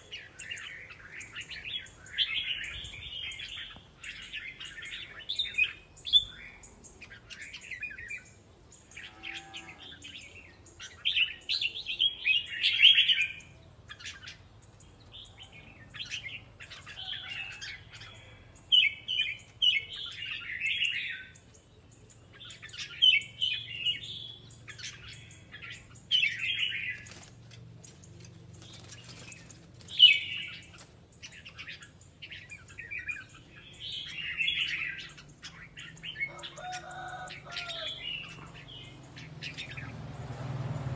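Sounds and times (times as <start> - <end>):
bulbuls singing: 0.0 - 40.9.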